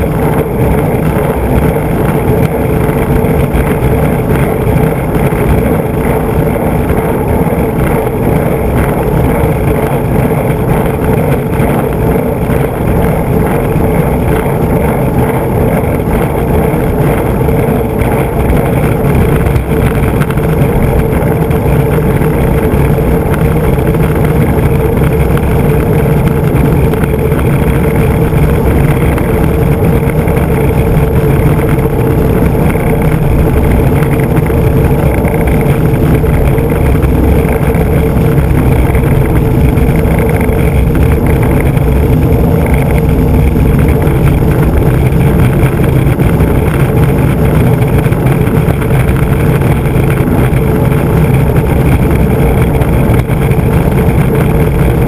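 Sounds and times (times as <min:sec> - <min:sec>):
skateboard wheels rolling on asphalt: 0:00.0 - 0:55.0.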